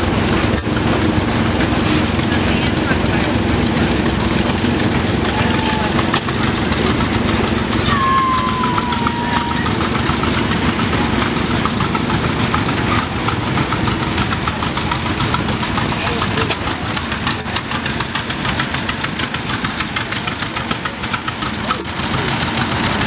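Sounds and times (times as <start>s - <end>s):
tractor engine running slowly: 0.0s - 23.0s.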